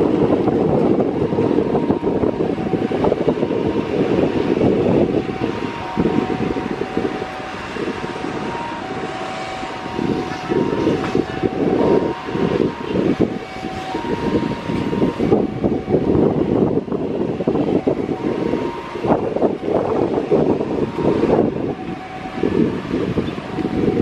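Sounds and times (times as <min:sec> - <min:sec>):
jet engines rumbling: 0:00.0 - 0:24.0
road traffic passing: 0:00.0 - 0:24.0
wind buffeting microphone: 0:00.0 - 0:24.0.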